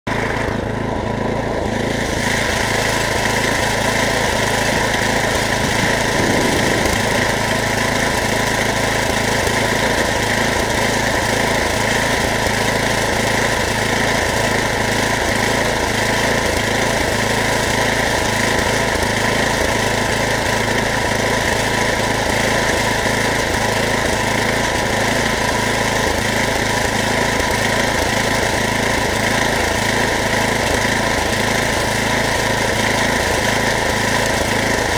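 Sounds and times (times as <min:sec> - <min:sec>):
small engine running: 0:00.1 - 0:34.9.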